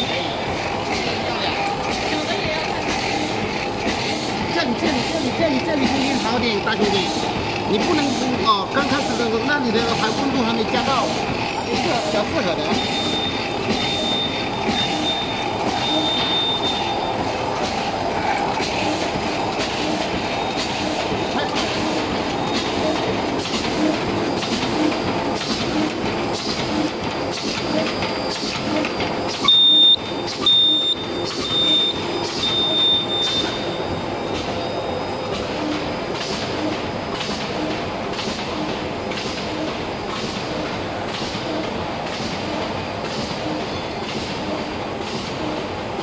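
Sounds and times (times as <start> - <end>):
bag making machine running: 0.0 - 46.0
repeating machine clack: 0.0 - 46.0.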